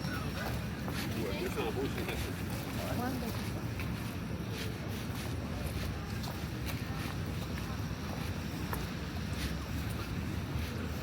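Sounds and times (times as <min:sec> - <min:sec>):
footsteps on pavement: 0:00.0 - 0:11.0.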